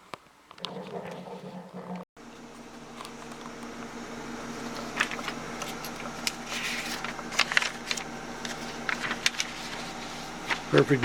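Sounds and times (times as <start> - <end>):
steady low hum: 0.5 - 11.0.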